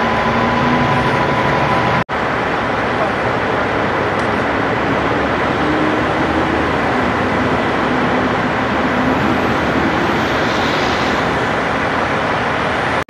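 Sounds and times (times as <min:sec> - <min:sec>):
freeway traffic roar: 0:00.0 - 0:13.0.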